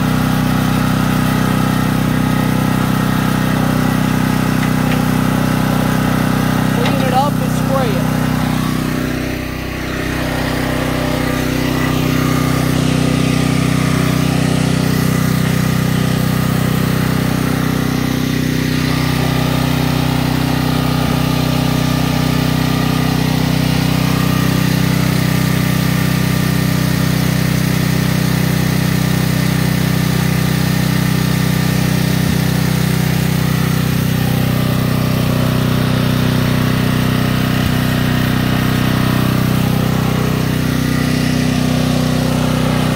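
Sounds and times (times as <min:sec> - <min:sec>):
small engine humming: 0:00.0 - 0:42.9.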